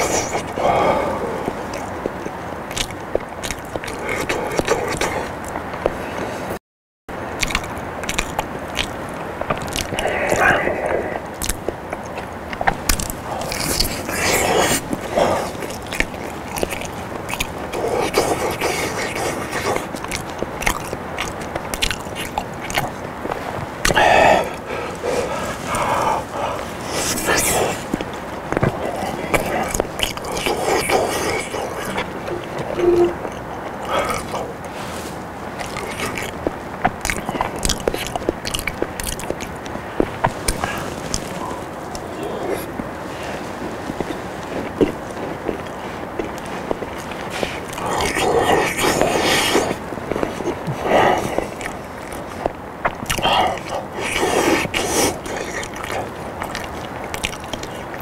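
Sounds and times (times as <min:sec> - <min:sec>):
mouth clicks: 0:00.0 - 0:06.3, 0:07.4 - 0:34.7, 0:35.6 - 0:42.9, 0:44.8 - 0:58.0
man chewing: 0:00.0 - 0:06.6, 0:07.4 - 0:58.0.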